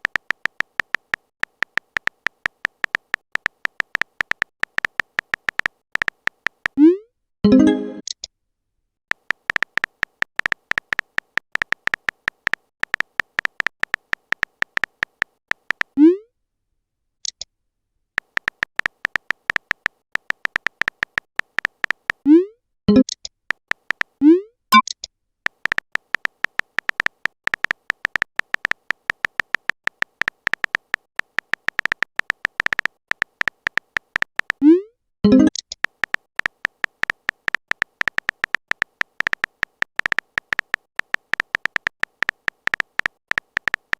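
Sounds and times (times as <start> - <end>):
keyboard typing clicks: 0.0 - 6.8, 9.1 - 16.0, 18.2 - 22.3, 22.9 - 43.9.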